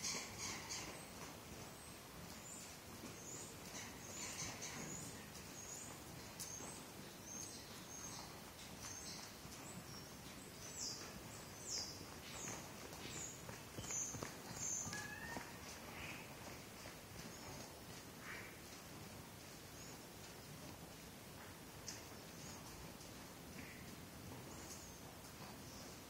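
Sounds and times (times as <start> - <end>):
small birds chirping: 0.0 - 20.6, 21.6 - 26.0
pony hoofbeats on sand: 0.1 - 26.0.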